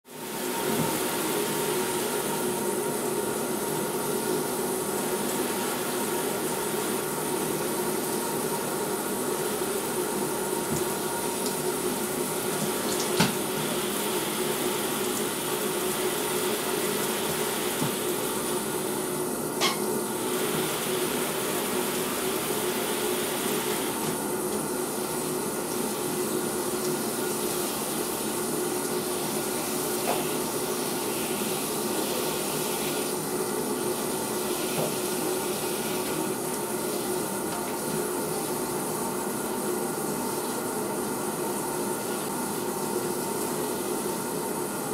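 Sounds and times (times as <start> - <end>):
water running into bathtub: 0.1 - 44.9.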